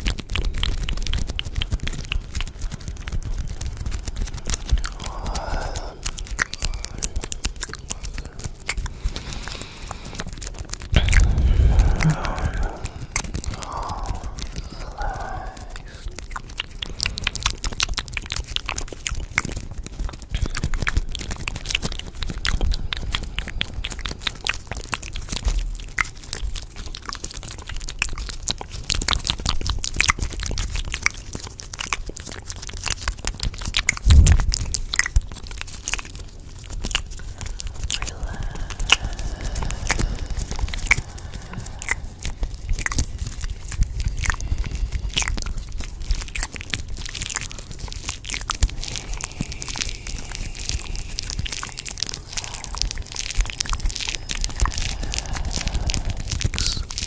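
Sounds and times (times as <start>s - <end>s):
crunchy chewing: 0.0s - 57.0s.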